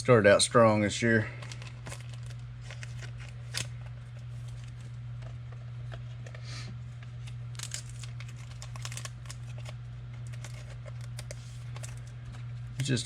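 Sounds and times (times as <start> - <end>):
low electrical hum: 0.0 - 13.0
trading cards rustling: 1.2 - 13.0.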